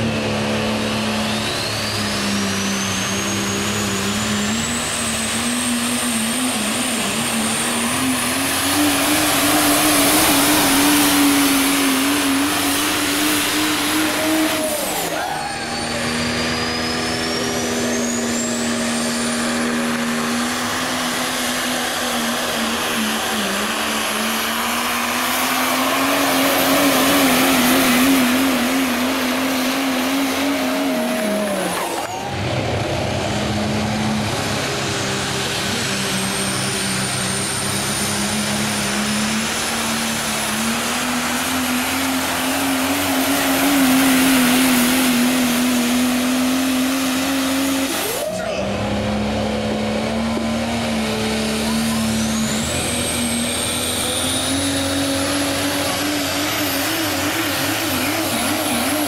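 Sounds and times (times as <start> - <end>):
diesel truck engine at high revs: 0.0 - 59.0
turbocharger whistle rising: 0.0 - 59.0.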